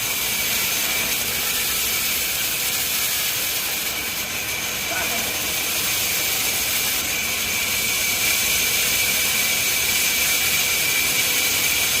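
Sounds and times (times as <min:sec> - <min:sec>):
sawmill saw running: 0:00.0 - 0:12.0.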